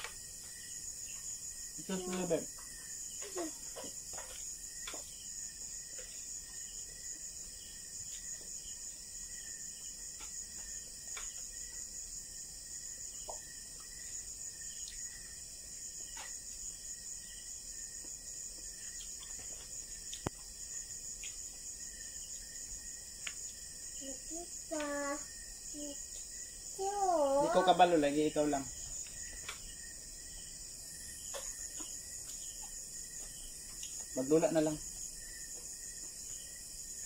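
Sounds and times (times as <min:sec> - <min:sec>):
insect trilling: 0:00.0 - 0:37.0.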